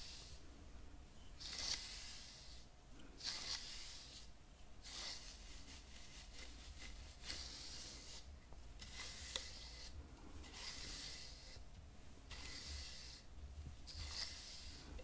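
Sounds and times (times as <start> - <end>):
hairbrush strokes: 0.0 - 0.6, 1.4 - 15.0.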